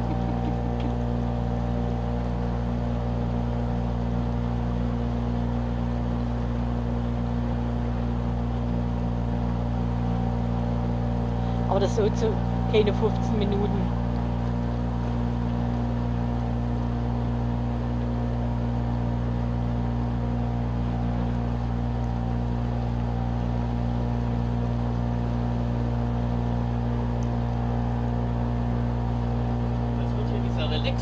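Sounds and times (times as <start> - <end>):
motorboat engine droning: 0.0 - 31.0.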